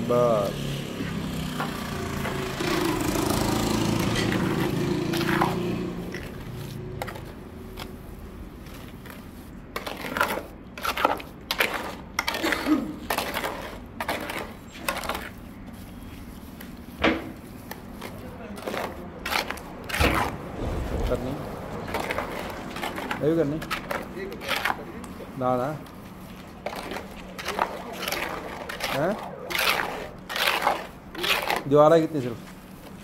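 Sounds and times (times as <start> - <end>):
tool scraping wet concrete mix: 0.0 - 33.0.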